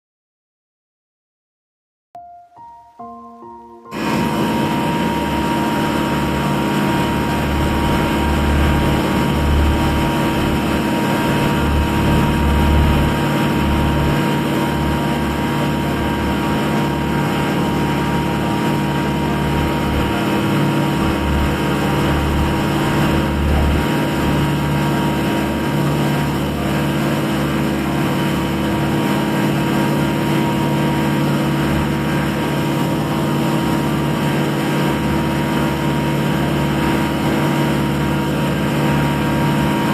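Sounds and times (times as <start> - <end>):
ferry engine humming: 3.9 - 39.9.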